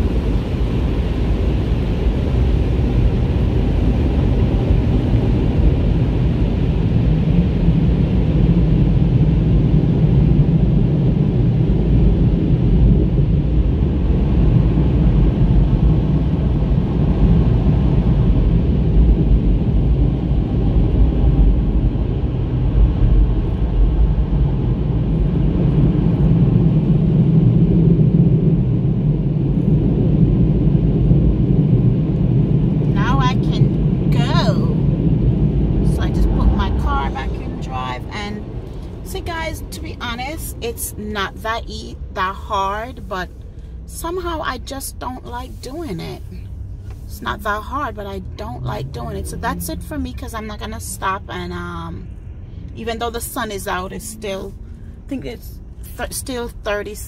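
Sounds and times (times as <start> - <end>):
car cabin rumble: 0.0 - 57.0.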